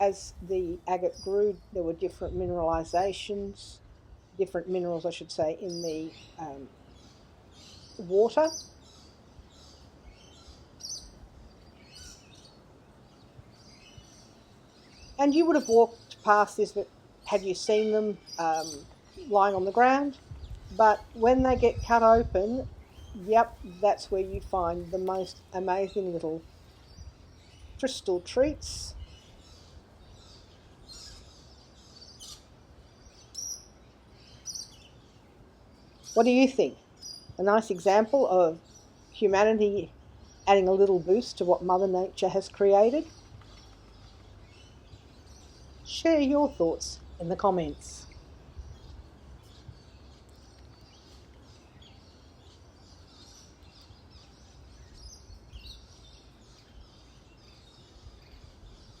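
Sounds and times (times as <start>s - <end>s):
birds chirping faintly: 0.0s - 59.0s.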